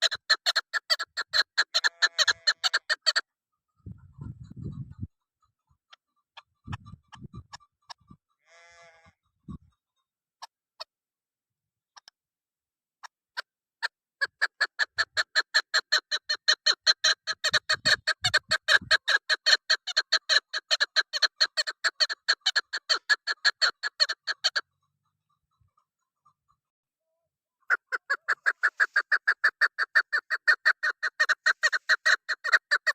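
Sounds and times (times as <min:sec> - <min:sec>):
partridge calling: 0:00.0 - 0:08.3, 0:13.8 - 0:26.7, 0:27.6 - 0:32.9.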